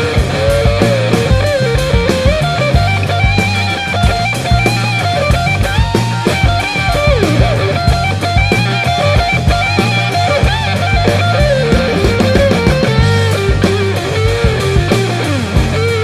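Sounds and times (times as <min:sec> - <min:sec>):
rock music with guitar and drums: 0:00.0 - 0:16.0.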